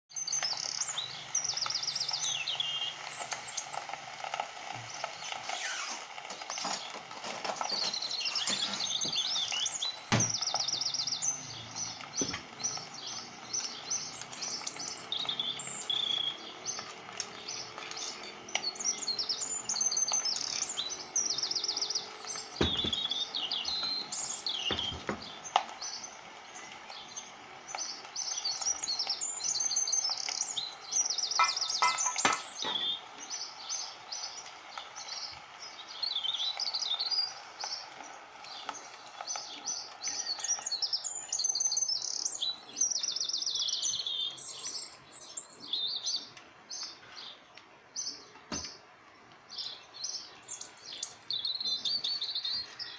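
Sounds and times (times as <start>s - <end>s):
small birds chirping and trilling: 0.1s - 52.9s.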